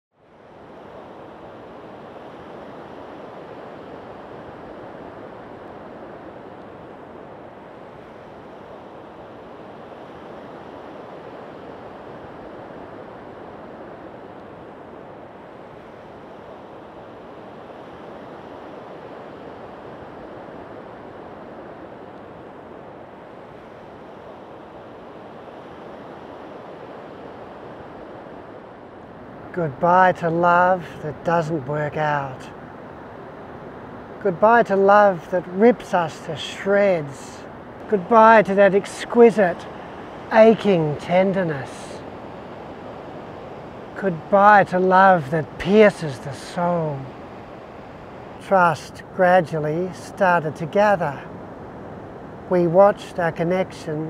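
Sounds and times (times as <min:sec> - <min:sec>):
ocean surf breaking: 0:00.4 - 0:54.0.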